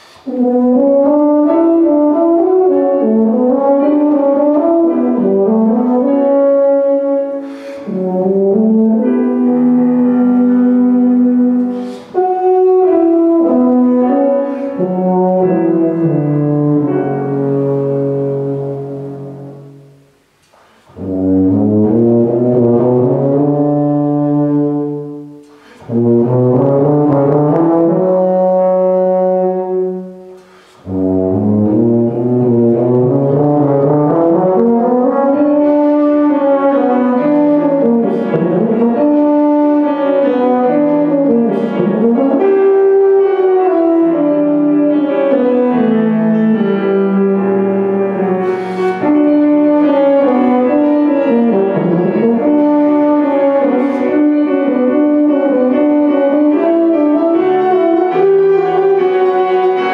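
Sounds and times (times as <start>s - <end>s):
tuba playing: 0.0s - 59.9s.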